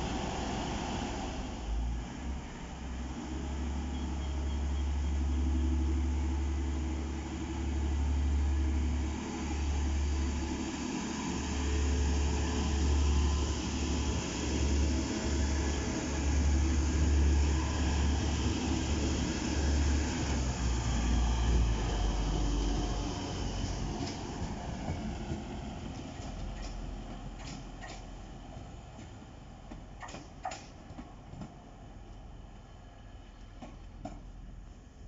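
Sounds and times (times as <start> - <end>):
wheels hissing on rails: 0.0 - 30.9
diesel train engine rumble: 0.0 - 35.0.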